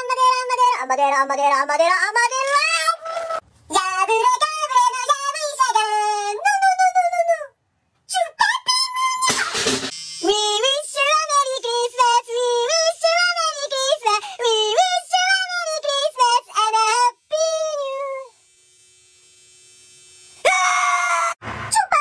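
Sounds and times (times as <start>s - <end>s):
high-pitched voice singing: 0.0s - 18.4s, 20.5s - 22.0s.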